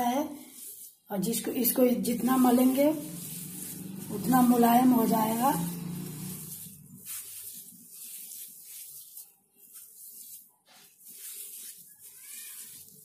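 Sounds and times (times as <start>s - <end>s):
hand kneading dough on steel plate: 0.6s - 13.0s.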